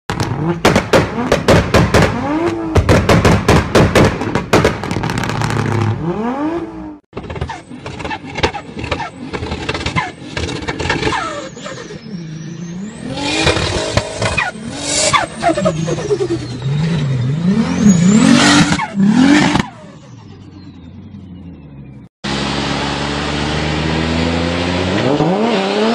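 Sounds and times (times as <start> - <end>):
car engines revving hard: 0.1 - 20.8, 22.3 - 25.9.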